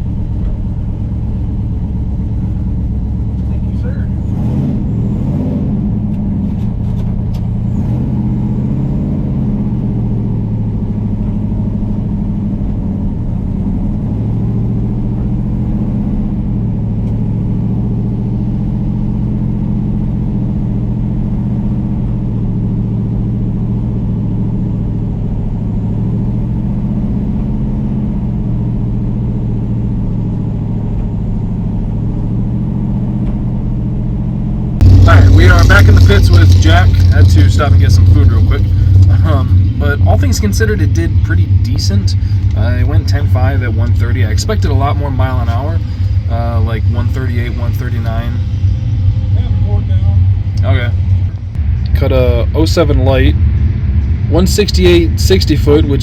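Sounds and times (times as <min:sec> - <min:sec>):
engine droning at low speed: 0:00.0 - 0:56.0.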